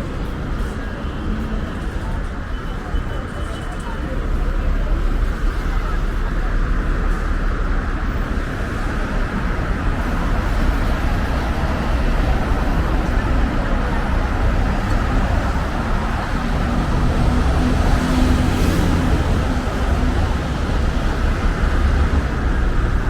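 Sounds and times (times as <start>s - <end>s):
street traffic noise: 0.0s - 23.0s
vehicle engine drone: 4.0s - 23.0s.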